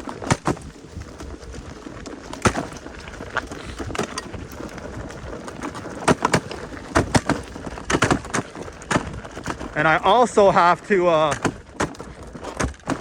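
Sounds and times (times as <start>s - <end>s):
bike suspension banging: 0.0s - 13.0s.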